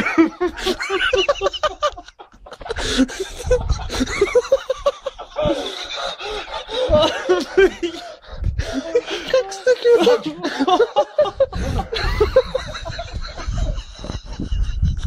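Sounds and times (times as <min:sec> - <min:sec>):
people laughing: 0:00.0 - 0:15.0.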